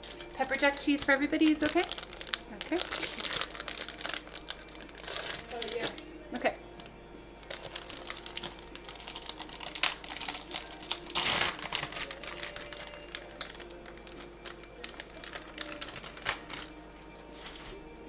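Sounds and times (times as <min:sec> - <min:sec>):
plastic packaging crinkling: 0:00.0 - 0:06.1, 0:06.8 - 0:17.8.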